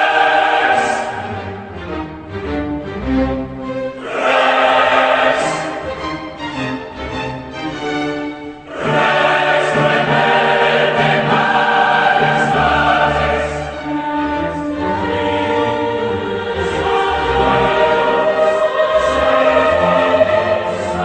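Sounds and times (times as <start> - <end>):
choir singing: 0.0 - 21.0
orchestral backing: 0.0 - 21.0.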